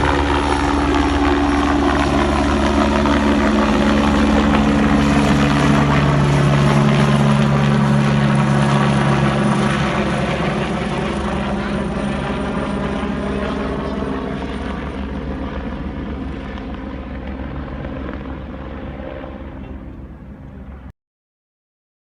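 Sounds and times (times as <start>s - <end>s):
helicopter rotor and turbine engine: 0.0s - 20.9s.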